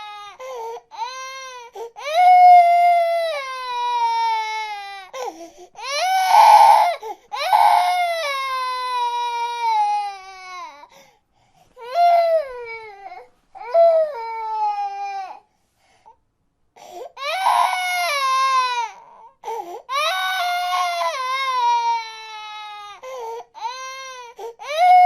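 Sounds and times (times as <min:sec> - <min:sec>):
infant crying: 0:00.0 - 0:11.0, 0:11.8 - 0:15.4, 0:16.8 - 0:25.0.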